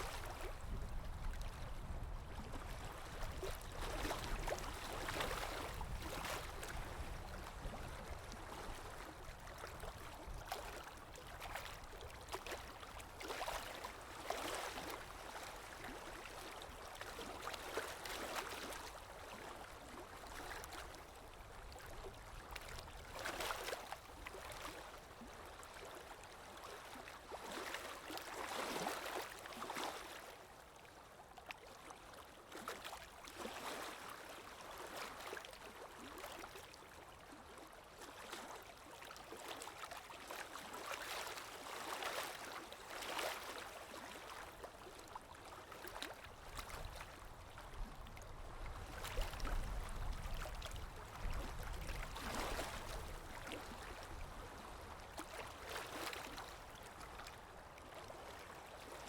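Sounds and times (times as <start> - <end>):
water lapping: 0.0 - 59.0.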